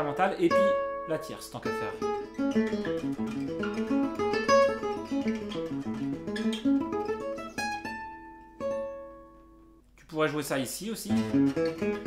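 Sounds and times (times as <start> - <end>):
acoustic guitar arpeggio: 0.0 - 9.8, 11.1 - 12.0.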